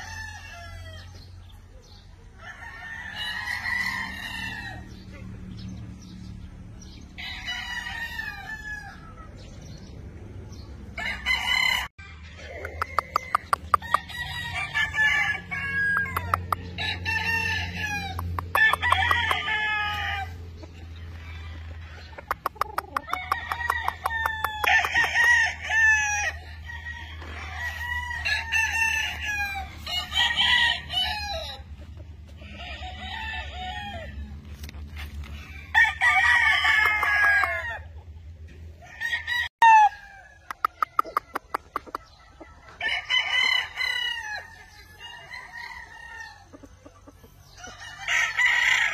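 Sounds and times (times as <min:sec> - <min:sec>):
roosters crowing: 0:00.0 - 0:48.9.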